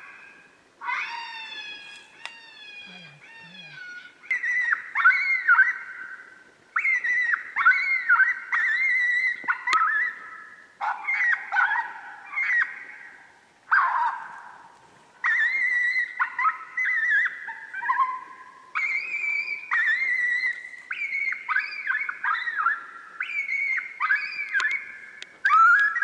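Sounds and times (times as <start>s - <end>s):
coyotes yipping and howling: 0.0s - 26.0s.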